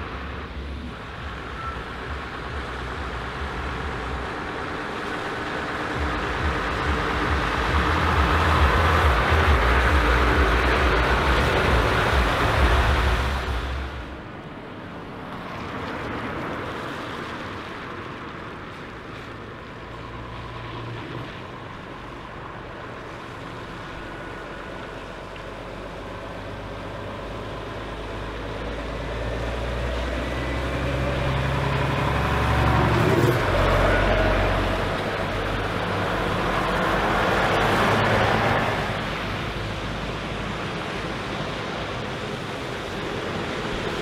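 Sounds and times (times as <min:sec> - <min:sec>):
truck diesel engines running: 0:00.0 - 0:44.0.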